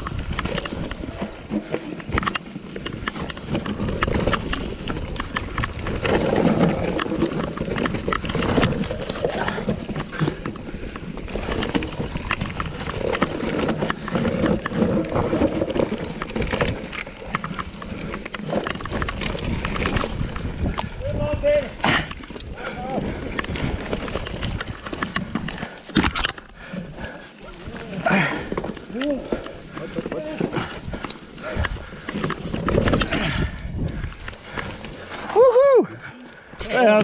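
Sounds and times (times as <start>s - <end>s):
bike rattling over bumps: 0.0s - 37.0s
tyres rolling over dirt: 0.0s - 37.0s.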